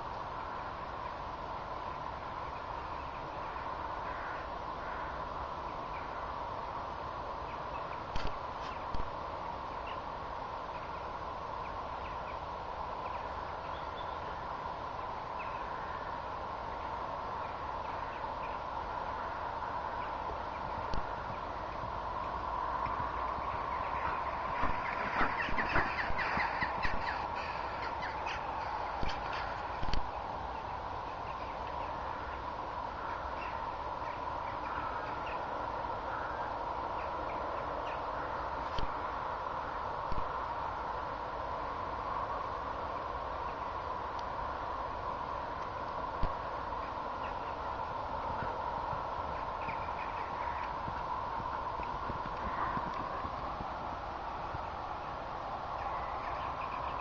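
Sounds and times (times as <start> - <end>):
steady outdoor hiss: 0.0 - 57.0
faint bird calls: 0.3 - 6.4, 7.2 - 39.2, 45.6 - 53.7, 54.3 - 57.0.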